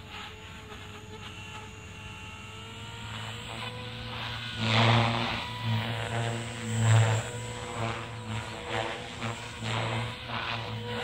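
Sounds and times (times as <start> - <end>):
model helicopter rotor whining: 0.0 - 11.0.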